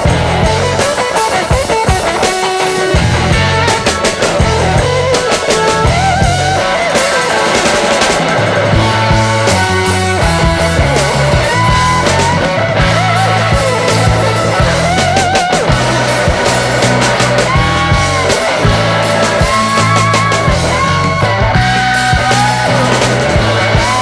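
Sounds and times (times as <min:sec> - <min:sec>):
loud rock music: 0:00.0 - 0:24.0.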